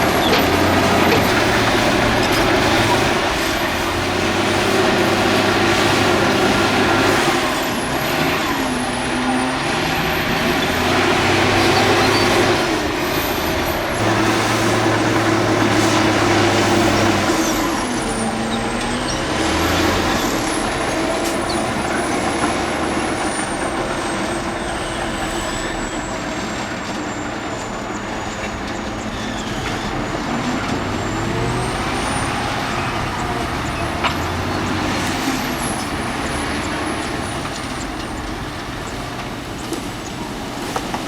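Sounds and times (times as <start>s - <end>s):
heavy diesel machinery working: 0.0s - 41.0s.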